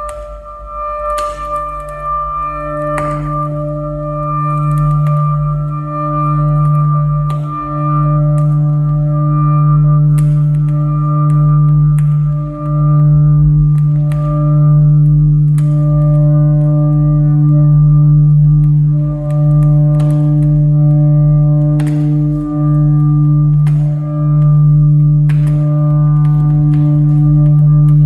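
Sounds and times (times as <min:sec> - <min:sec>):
ambient electronic music drone: 0:00.0 - 0:28.0.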